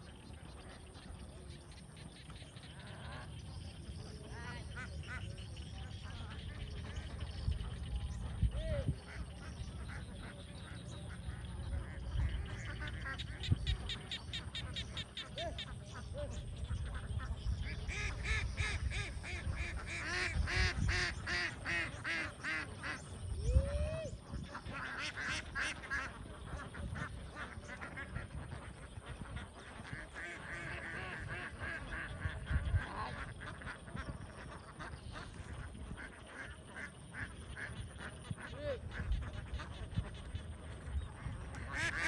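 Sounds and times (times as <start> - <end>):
ducks quacking: 0.0 - 42.0.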